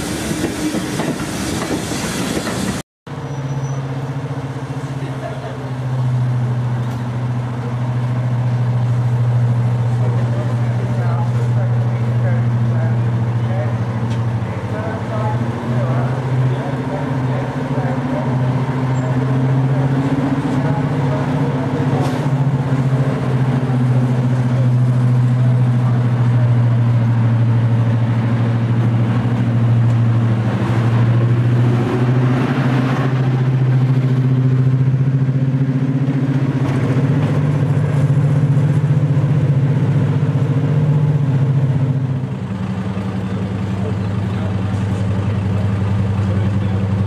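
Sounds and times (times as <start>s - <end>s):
diesel locomotive engines droning: 0.0s - 47.0s.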